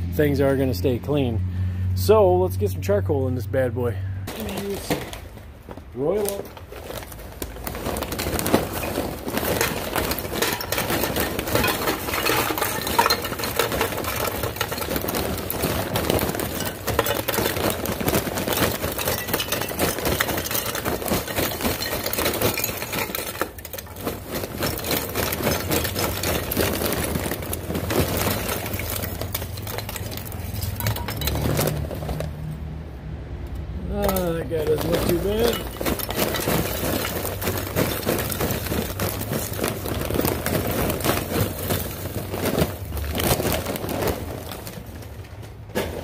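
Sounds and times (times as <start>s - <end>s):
charcoal clattering into metal chute: 4.3s - 32.5s, 33.8s - 46.0s.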